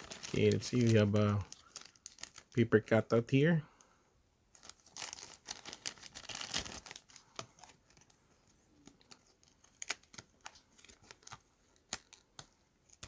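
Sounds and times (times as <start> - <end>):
card rustling: 0.0 - 2.6, 4.5 - 13.0
plastic bag crinkling: 0.0 - 2.6, 4.5 - 13.0.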